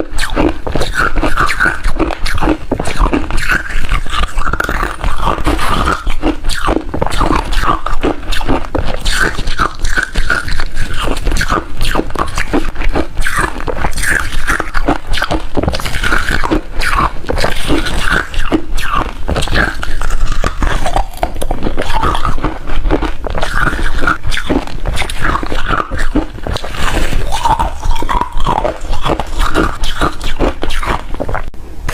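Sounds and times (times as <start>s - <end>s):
ice being chewed: 0.0s - 31.5s.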